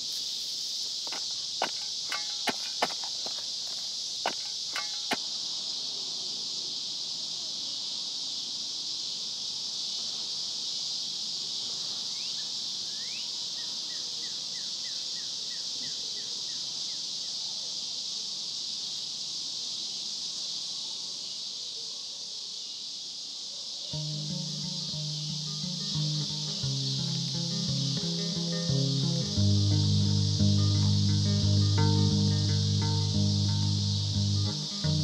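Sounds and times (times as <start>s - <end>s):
high insect chorus: 0.0s - 35.0s.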